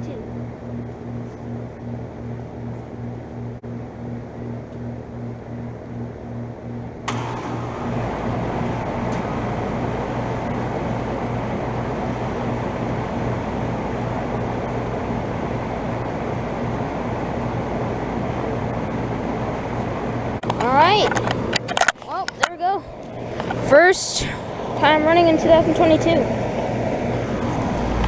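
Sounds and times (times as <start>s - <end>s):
air conditioner fan running: 0.0s - 28.0s
low hum: 0.0s - 28.0s.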